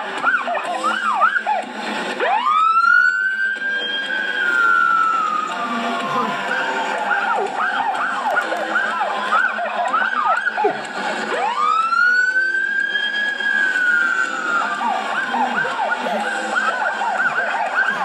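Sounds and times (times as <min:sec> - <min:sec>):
fire engine yelp siren: 0:00.0 - 0:18.0
wail siren: 0:00.0 - 0:18.0.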